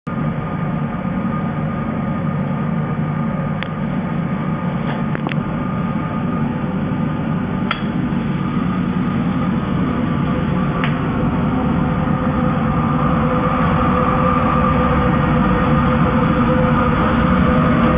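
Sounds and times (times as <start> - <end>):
machine mechanical hum: 0.1 - 17.9.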